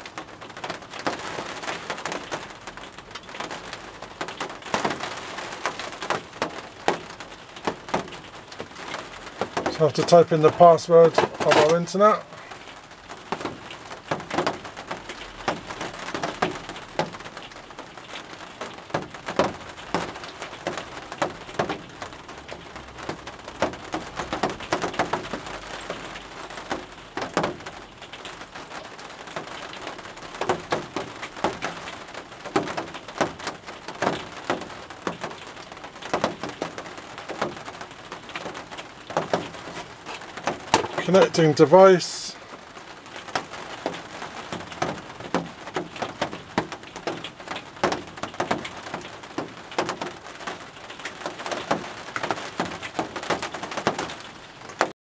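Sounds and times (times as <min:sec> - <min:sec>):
rain hissing on greenhouse roof: 0:00.0 - 0:55.0
raindrop taps: 0:00.0 - 0:55.0.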